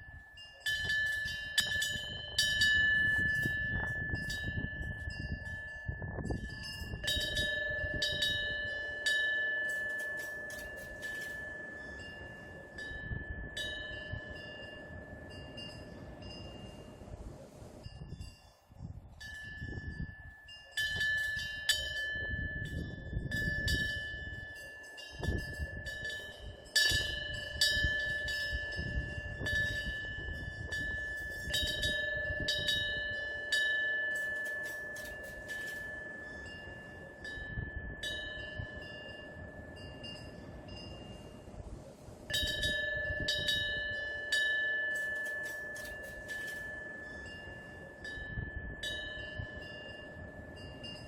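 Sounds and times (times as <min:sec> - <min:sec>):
low rumble of wind: 0:00.0 - 0:51.0
wind bell ringing: 0:00.0 - 0:51.0.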